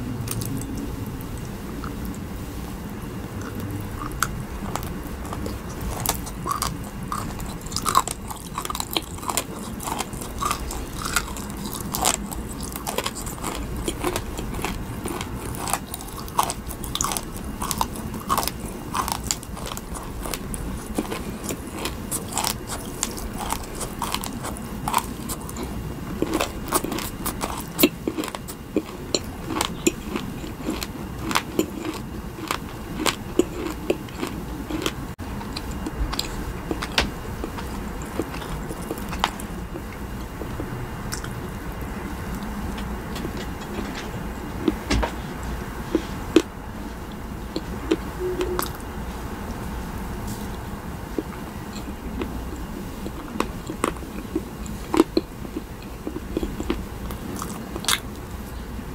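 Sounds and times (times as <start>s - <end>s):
chewing crunchy candy: 3.3s - 44.8s, 50.2s - 58.3s.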